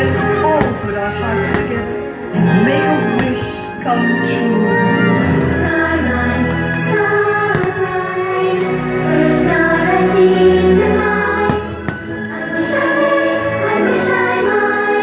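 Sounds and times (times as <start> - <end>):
choir singing over orchestra: 0.0 - 15.0.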